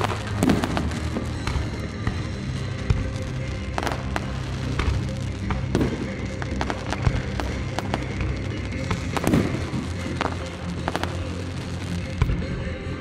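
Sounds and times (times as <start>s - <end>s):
fireworks boom: 0.0s - 12.4s
fireworks bangs and crackles: 0.0s - 13.0s
loud music through sound system: 0.0s - 13.0s.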